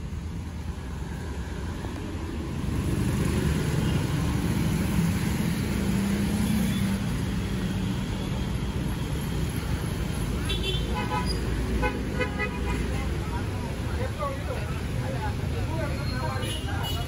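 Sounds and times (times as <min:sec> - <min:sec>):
motorcycle and car engines: 0:00.0 - 0:15.9
low traffic rumble: 0:00.0 - 0:17.0.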